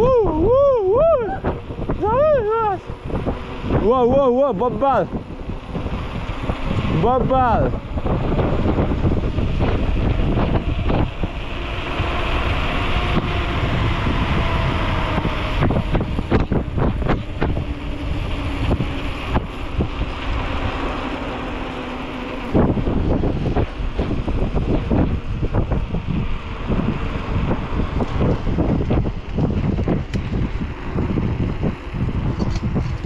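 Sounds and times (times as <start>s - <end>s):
steady low rumble: 0.0s - 33.0s
wind buffeting microphone: 0.0s - 33.0s.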